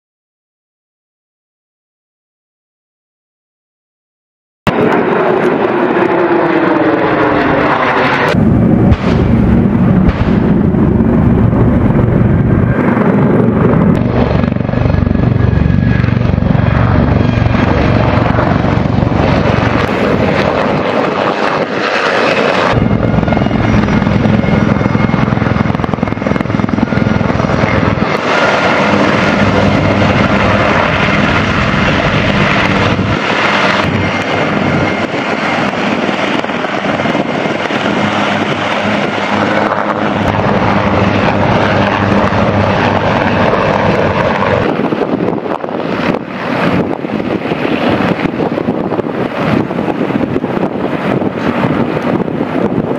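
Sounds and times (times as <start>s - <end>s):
helicopter rotor beat: 4.7s - 52.9s.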